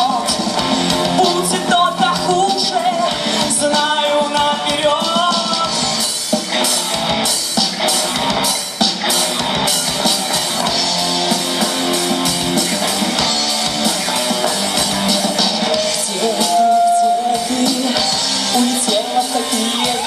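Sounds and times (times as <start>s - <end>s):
drum kit beat on cymbals: 0.0s - 20.0s
guitar: 0.0s - 20.0s.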